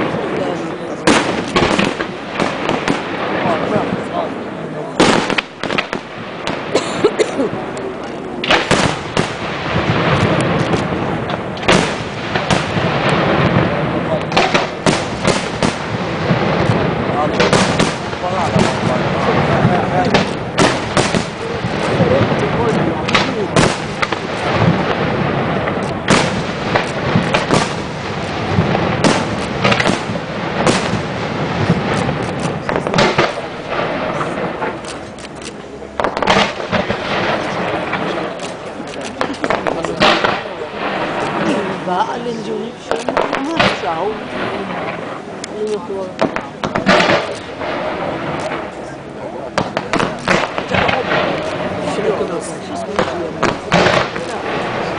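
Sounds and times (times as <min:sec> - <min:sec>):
firework crackling: 0:00.0 - 0:54.9
firework shells bursting: 0:01.0 - 0:04.0, 0:05.0 - 0:41.9, 0:42.9 - 0:48.9, 0:49.5 - 0:54.9.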